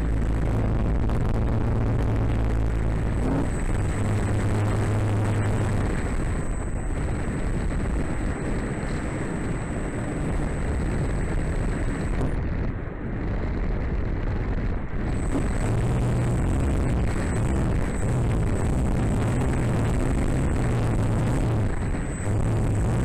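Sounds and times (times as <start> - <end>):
thin high whine: 0.0 - 12.5, 14.8 - 23.0
wind and propeller rush: 0.0 - 23.0.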